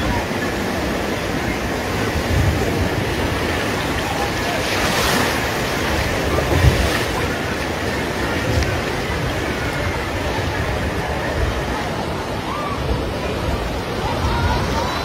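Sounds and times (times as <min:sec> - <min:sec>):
floodwater rushing: 0:00.0 - 0:15.0
wind buffeting microphone: 0:00.0 - 0:15.0.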